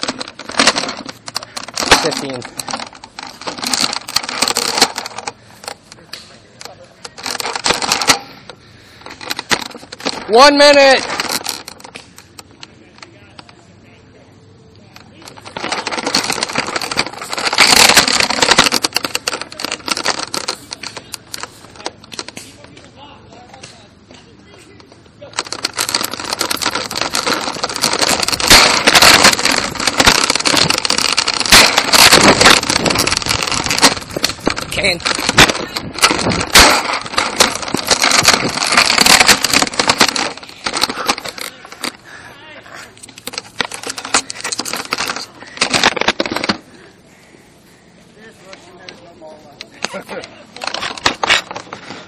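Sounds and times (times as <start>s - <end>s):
gear rattling and clicking: 0.0s - 13.6s, 14.9s - 22.8s, 24.8s - 46.9s, 49.6s - 52.0s.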